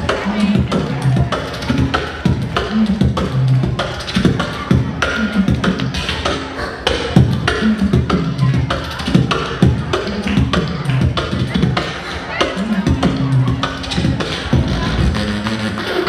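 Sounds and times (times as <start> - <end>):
beatboxing rhythm: 0.0 - 16.0.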